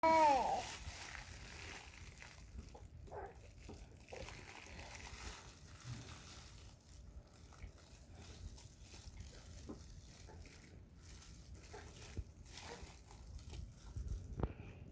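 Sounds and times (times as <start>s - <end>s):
child chewing food: 0.0s - 14.9s
soft handling noises: 0.5s - 14.9s.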